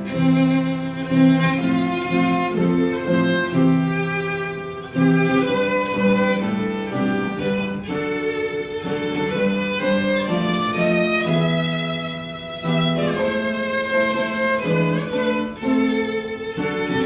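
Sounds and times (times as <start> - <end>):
violin and strings playing: 0.0 - 17.0.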